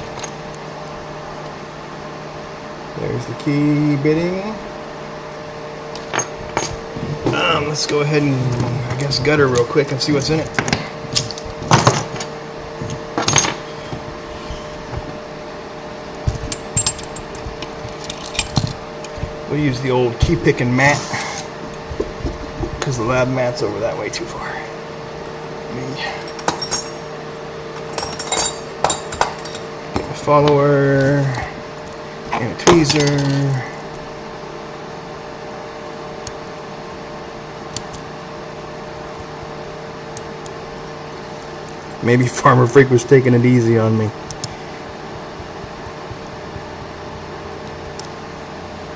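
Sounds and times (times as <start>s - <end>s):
steady hum: 0.0s - 48.9s.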